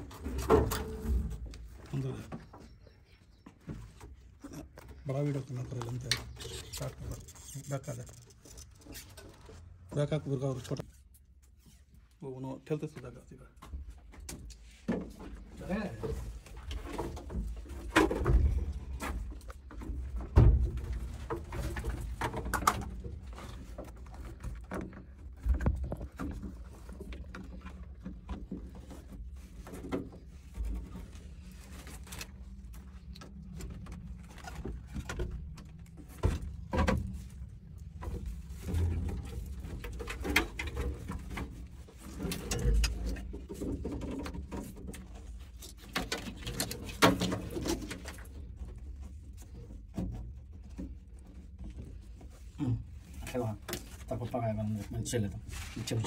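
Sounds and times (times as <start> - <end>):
plastic conduit clicking and rustling: 0.0 - 2.8, 3.6 - 11.5, 12.8 - 56.0.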